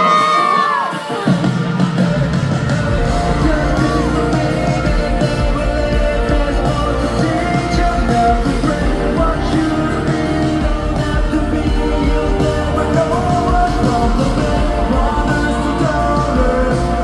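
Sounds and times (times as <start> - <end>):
live pop song through sound system: 0.0 - 17.0.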